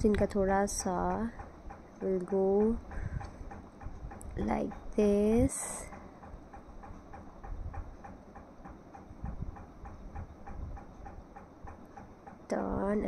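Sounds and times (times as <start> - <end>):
steady ticking: 0.0 - 13.0.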